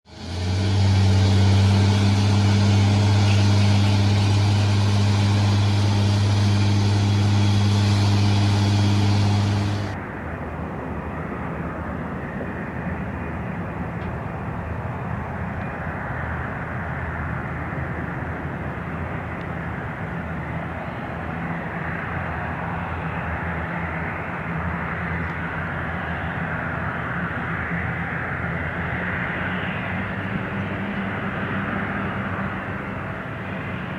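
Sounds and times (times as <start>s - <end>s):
airliner engines droning: 0.1s - 33.9s.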